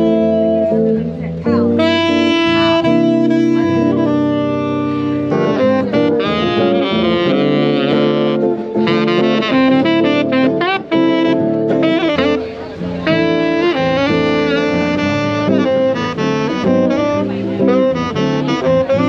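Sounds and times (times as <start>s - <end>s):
jazz saxophone melody: 0.0s - 19.0s.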